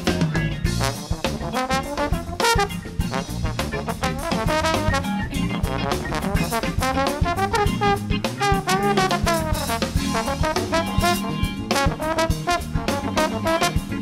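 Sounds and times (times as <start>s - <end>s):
bass line: 0.0s - 14.0s
drum kit: 0.0s - 14.0s
horn solo: 0.0s - 14.0s.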